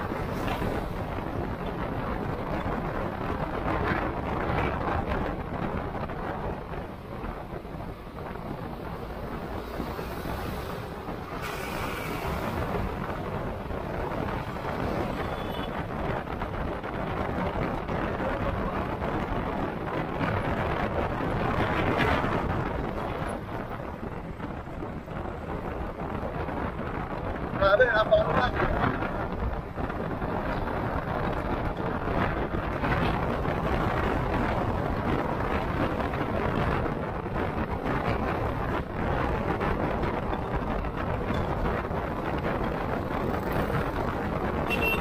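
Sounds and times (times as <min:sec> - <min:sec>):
road noise: 0:00.0 - 0:45.0
wind rush over microphone: 0:00.0 - 0:45.0.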